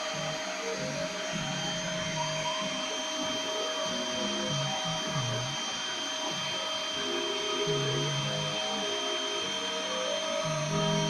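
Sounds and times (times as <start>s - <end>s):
milling spindle whine: 0.0s - 11.0s
stepper motors humming: 0.0s - 11.0s.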